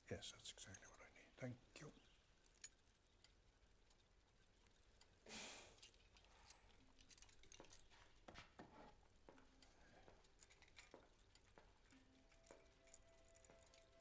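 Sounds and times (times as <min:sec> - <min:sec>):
soft hiss: 0:00.0 - 0:14.0
faint irregular clicks and taps: 0:02.0 - 0:14.0.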